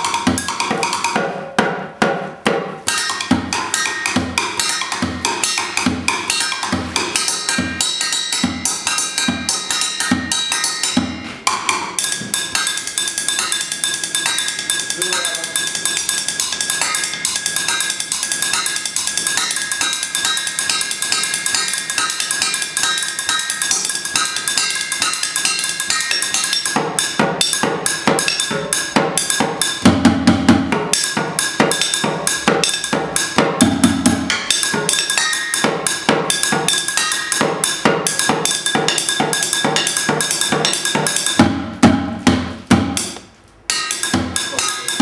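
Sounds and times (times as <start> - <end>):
drumming on metal pots: 0.0 - 45.0
metal pot ringing: 2.9 - 29.8, 30.8 - 41.4, 43.7 - 45.0.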